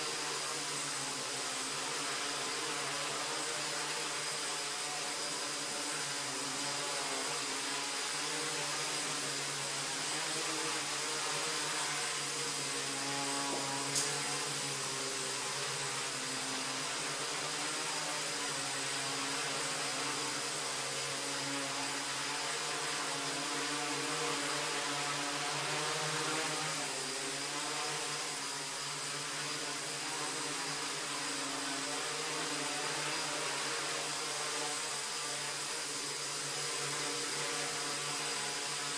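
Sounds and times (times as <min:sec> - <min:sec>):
drone motors buzzing: 0:00.0 - 0:38.9.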